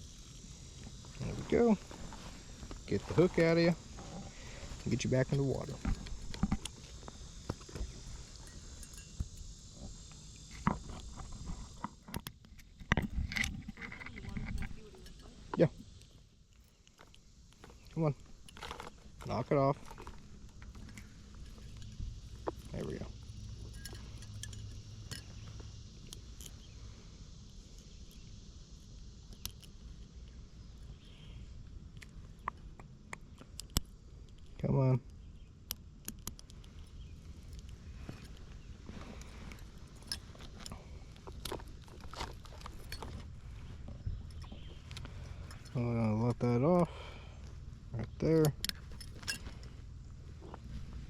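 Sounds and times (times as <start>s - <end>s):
high insect chorus: 0.0s - 51.0s.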